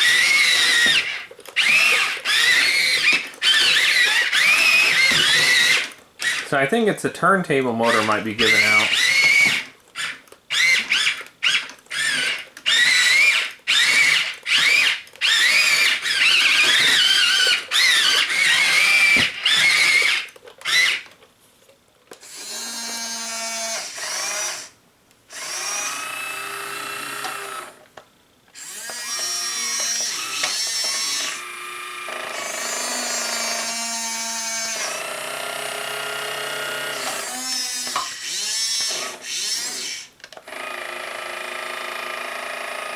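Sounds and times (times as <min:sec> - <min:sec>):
electric gear motors whining: 0:00.0 - 0:06.6, 0:07.8 - 0:21.2, 0:22.2 - 0:27.8, 0:28.6 - 0:42.9.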